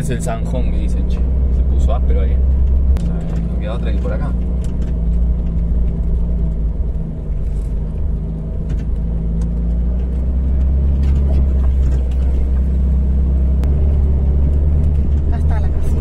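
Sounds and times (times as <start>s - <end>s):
van engine running: 0.0s - 16.0s.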